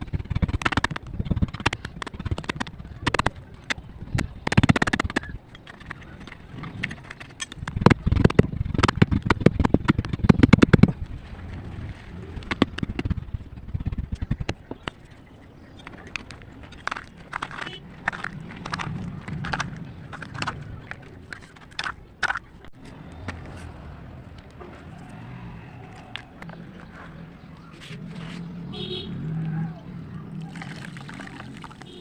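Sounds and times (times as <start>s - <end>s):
close crunching and crackling: 0.0s - 32.0s.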